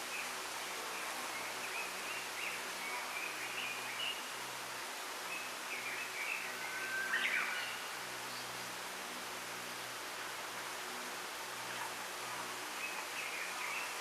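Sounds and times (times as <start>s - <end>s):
wind rustling bamboo leaves: 0.0s - 14.0s.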